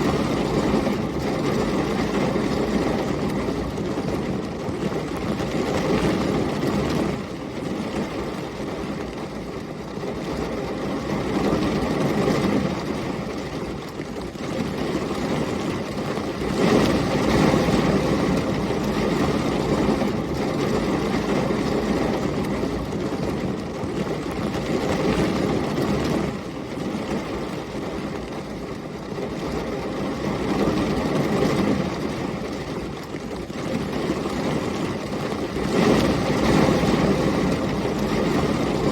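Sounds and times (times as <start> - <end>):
gusting storm wind: 0.0 - 38.9
heavy rain pouring: 0.0 - 38.9.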